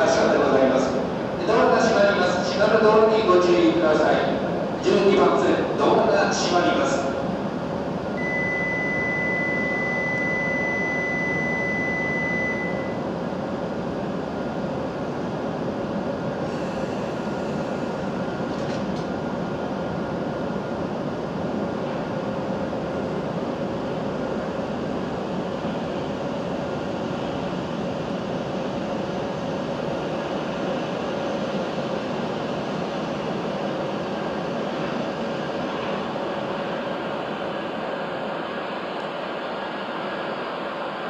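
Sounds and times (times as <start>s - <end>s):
train hum and rumble: 0.0s - 41.0s.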